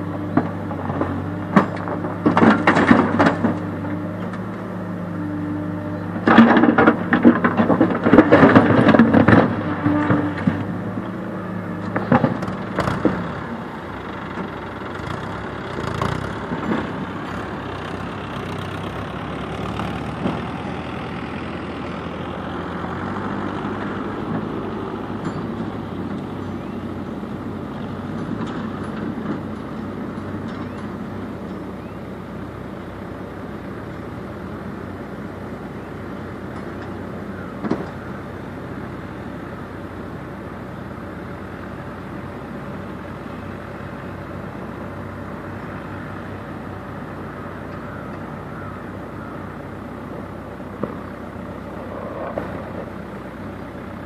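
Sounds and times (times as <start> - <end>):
backhoe loader diesel engine: 0.0 - 54.0
tractor engine running: 0.0 - 54.0.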